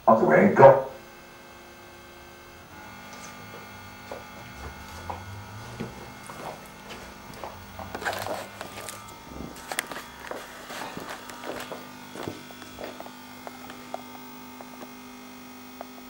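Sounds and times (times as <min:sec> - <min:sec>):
electrical hum: 0:00.0 - 0:16.0
faint motor whirr: 0:00.9 - 0:16.0.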